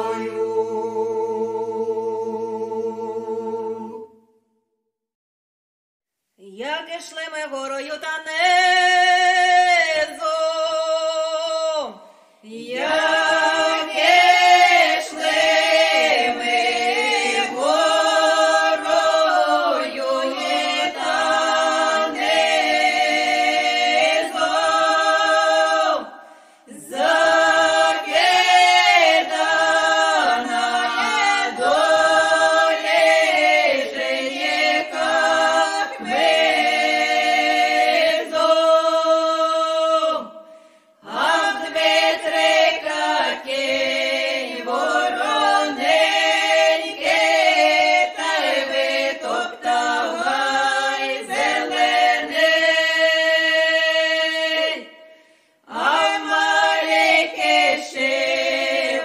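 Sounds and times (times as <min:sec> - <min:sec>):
choir singing a cappella: 0:00.0 - 0:04.4, 0:08.1 - 0:59.0.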